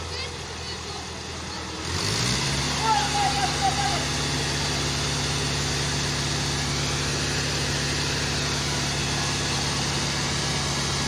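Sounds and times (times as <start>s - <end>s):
tractor engine running steadily: 0.0s - 11.0s.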